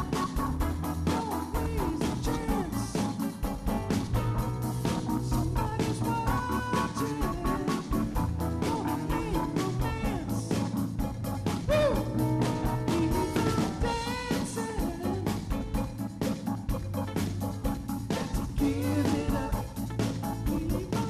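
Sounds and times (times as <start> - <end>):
rock band music: 0.0 - 21.0.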